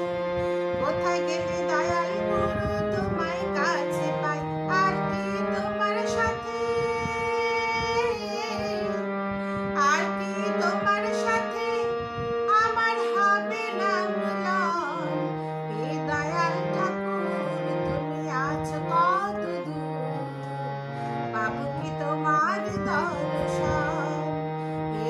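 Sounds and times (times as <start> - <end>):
harmonium chords: 0.0 - 25.0
woman singing: 0.7 - 25.0.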